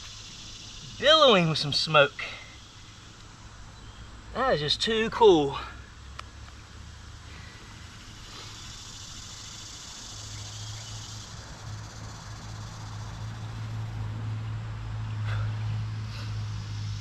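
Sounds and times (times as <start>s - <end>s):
high insect chorus: 0.0s - 17.0s.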